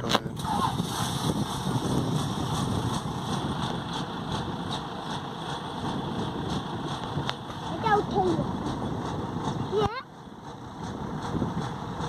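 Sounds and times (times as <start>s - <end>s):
excavator diesel engine idling: 1.3s - 12.0s.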